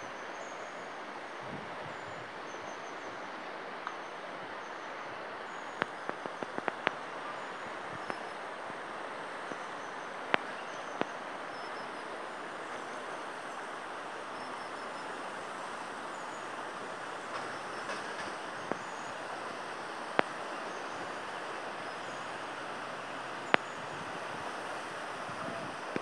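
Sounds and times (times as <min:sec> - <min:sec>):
river rushing: 0:03.2 - 0:26.0.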